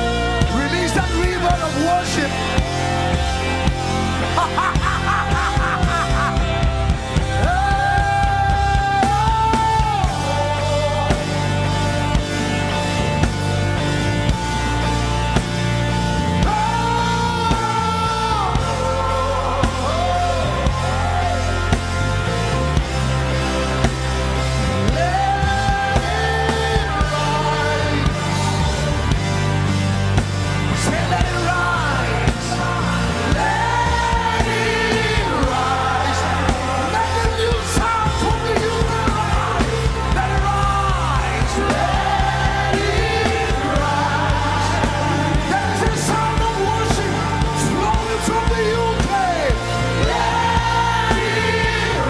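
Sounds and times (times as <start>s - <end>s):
gospel worship band music: 0.0s - 52.0s.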